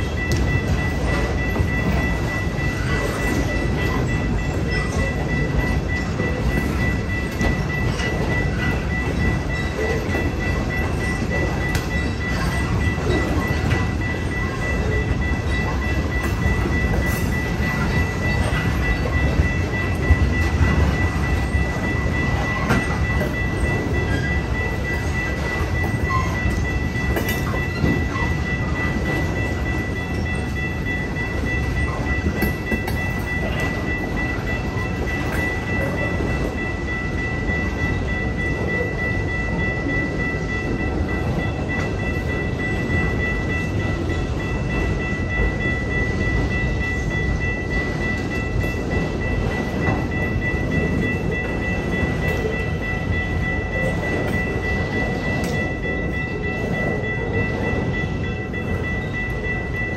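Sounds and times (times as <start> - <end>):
crossing warning bell: 0.0 - 59.9
freight train wheels clattering: 0.0 - 59.9.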